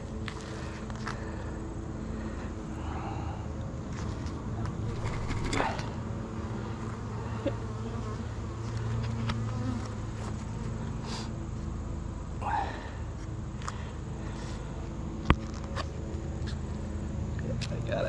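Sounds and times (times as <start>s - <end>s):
honeybees buzzing: 0.1s - 17.4s.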